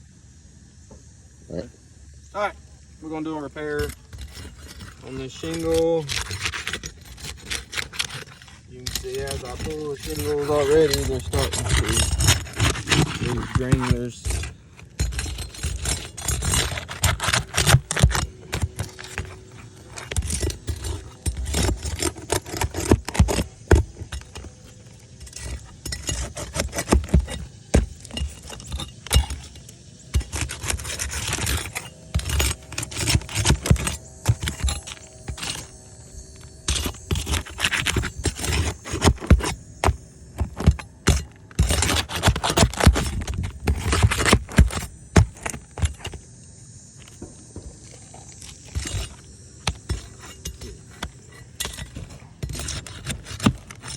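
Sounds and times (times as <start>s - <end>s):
roof shingles scraping and crackling: 2.4s - 53.9s.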